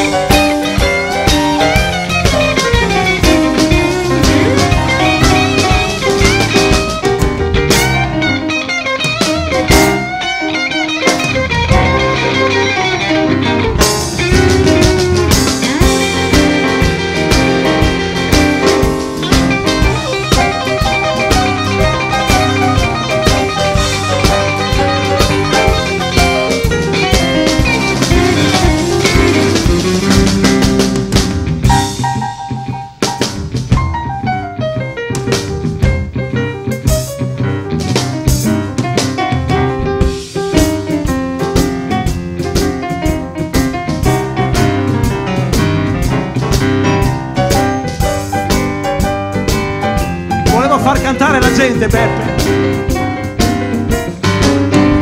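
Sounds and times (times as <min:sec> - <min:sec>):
drum beat: 0:00.0 - 0:34.4, 0:35.0 - 0:55.0
blues-rock band playing: 0:00.0 - 0:55.0
electric guitar: 0:00.0 - 0:55.0
keyboard melody: 0:00.0 - 0:55.0.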